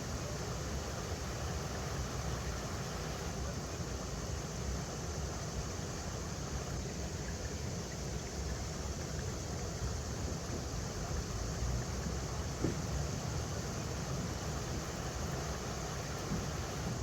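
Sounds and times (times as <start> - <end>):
river water flowing over rocks: 0.0 - 17.0.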